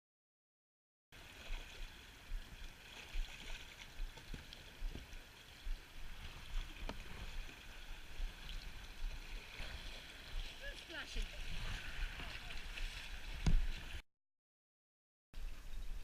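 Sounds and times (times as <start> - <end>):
moving water: 1.2 - 14.0, 15.4 - 16.0.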